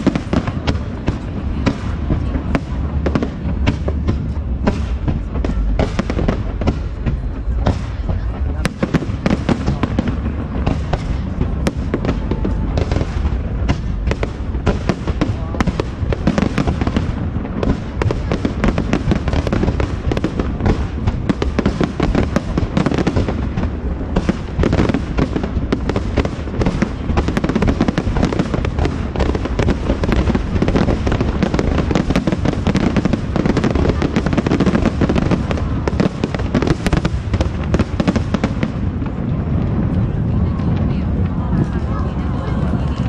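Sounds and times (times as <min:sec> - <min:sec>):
deep rumble: 0:00.0 - 0:43.0
fireworks bangs and crackling: 0:00.0 - 0:43.0.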